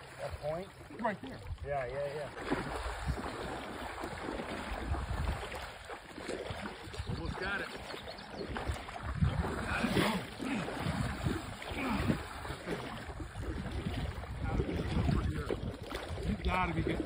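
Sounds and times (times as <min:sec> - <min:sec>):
water sloshing around legs: 0:00.0 - 0:17.0
wind buffeting microphone: 0:01.3 - 0:17.0.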